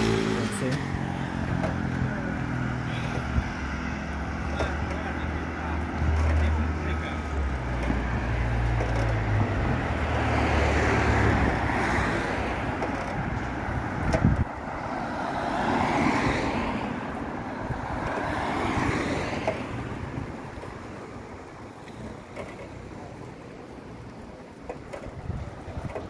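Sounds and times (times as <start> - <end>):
car engine and tyre noise: 0.0 - 26.0.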